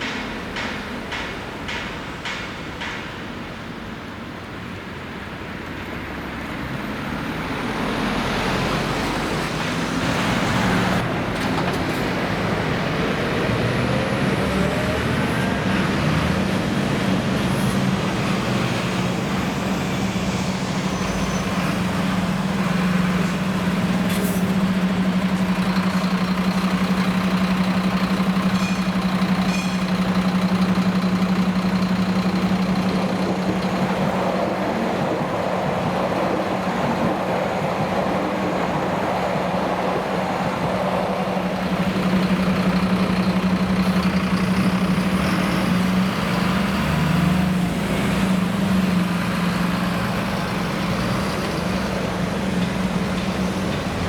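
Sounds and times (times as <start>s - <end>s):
construction site noise: 0.0s - 54.0s
heavy engine running: 7.0s - 54.0s.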